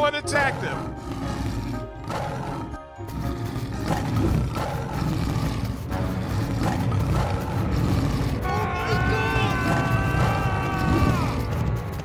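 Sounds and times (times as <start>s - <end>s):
background music: 0.0s - 12.0s
cartoon tiger roaring: 0.2s - 12.0s.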